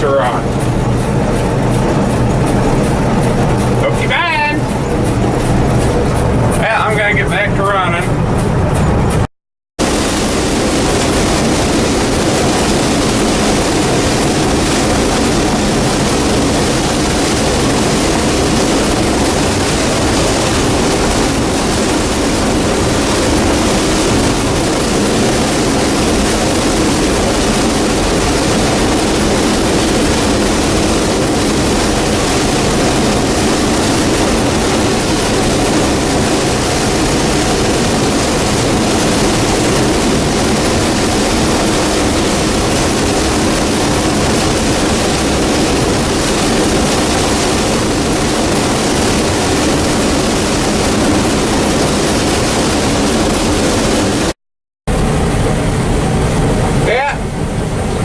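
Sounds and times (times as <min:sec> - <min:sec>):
combine harvester droning: 0:00.0 - 0:54.3, 0:54.9 - 0:58.0.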